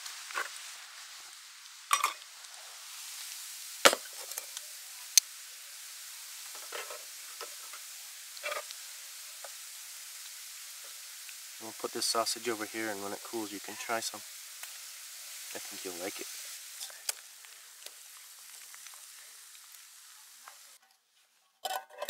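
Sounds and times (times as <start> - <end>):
sausages and bacon sizzling: 0.0 - 20.8.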